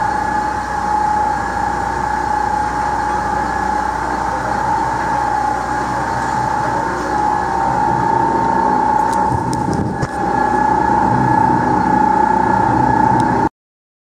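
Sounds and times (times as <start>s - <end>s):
blender machine hum and whine: 0.0s - 13.5s.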